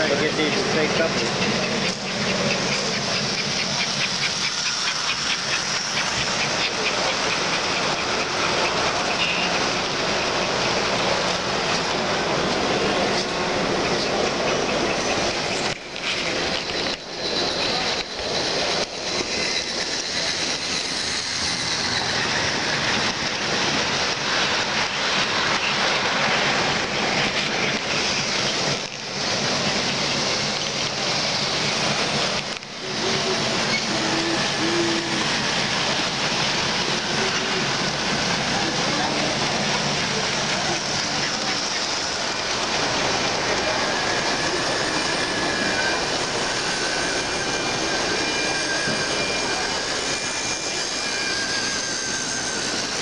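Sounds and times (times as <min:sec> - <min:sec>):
model train motor hum: 0:00.0 - 0:53.0
model train wheels on rails: 0:00.0 - 0:53.0.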